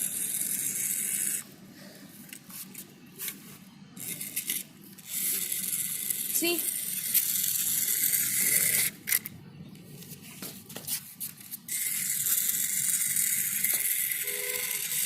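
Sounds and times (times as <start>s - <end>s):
toy motor and gears whirring: 0.0s - 1.5s, 2.2s - 9.3s, 10.9s - 15.0s.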